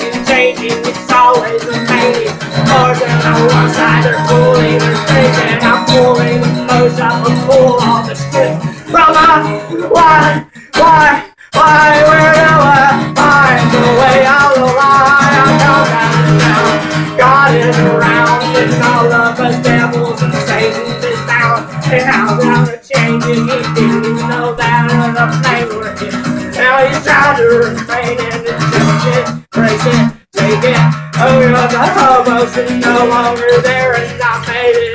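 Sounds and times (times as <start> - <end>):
acoustic guitar strumming: 0.0 - 34.9
man singing: 0.0 - 34.9.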